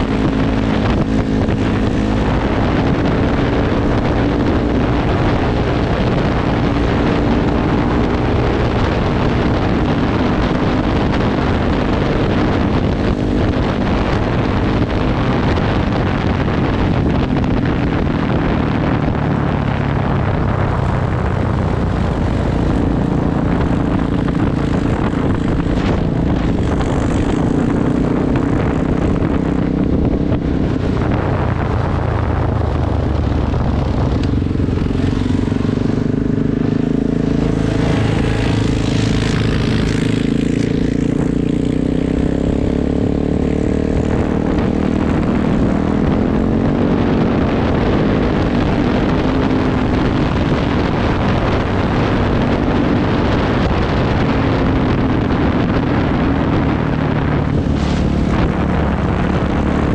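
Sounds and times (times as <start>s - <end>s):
quad engine running: 0.0s - 59.9s.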